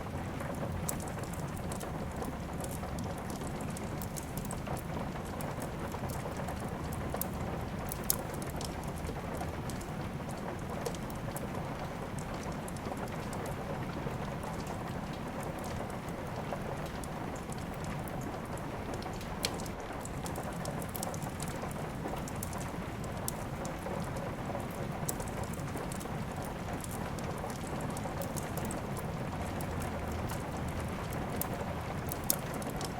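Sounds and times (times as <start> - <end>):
steady rain: 0.0 - 32.9
wood fire crackling and popping: 0.0 - 32.9.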